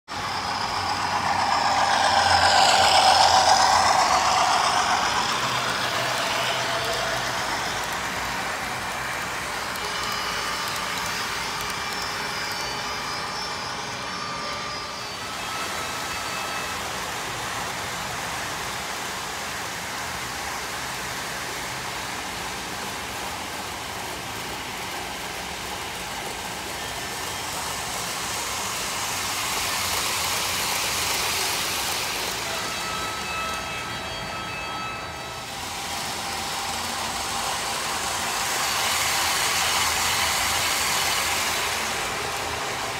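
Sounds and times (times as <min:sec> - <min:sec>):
faint motor whine: 0:00.1 - 0:42.9
model trains rolling on track: 0:00.1 - 0:42.9.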